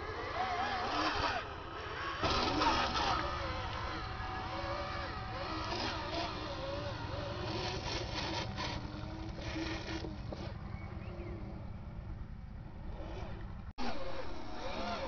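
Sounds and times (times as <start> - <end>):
toy truck electric motor and gears: 0.0 - 10.6, 12.8 - 15.0.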